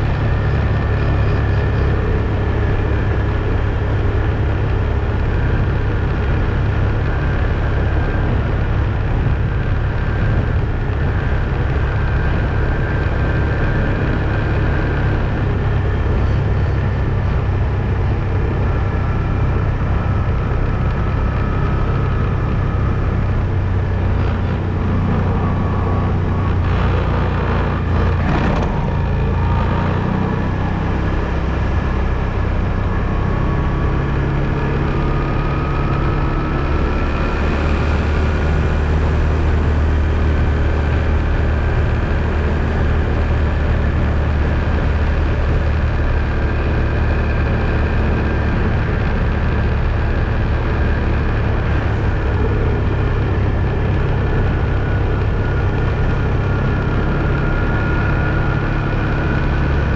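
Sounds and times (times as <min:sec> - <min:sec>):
quad bike engine droning: 0:00.0 - 0:59.9.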